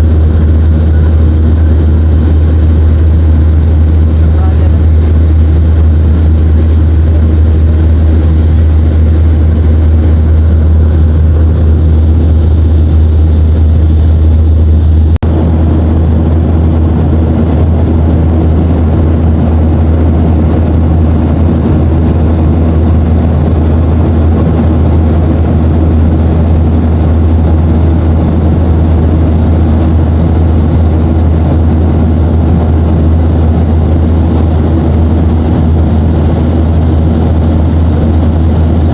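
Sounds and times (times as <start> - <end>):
jet airliner cabin drone: 0.0 - 38.9.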